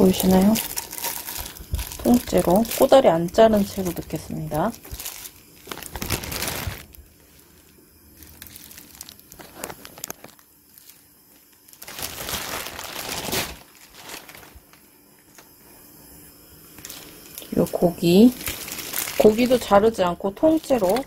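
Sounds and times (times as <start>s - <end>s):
plastic glove crinkling: 0.0s - 15.5s, 16.7s - 21.0s.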